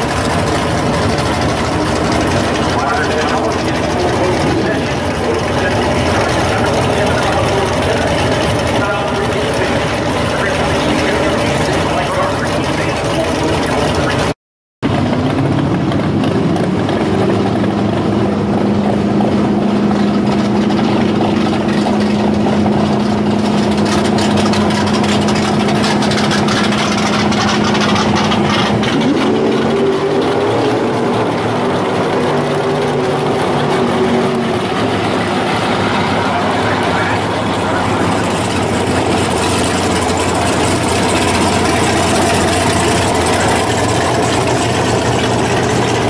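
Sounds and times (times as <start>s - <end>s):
car engine note rising: 0.0s - 14.3s, 14.9s - 46.0s
car engines rumbling: 0.0s - 46.0s.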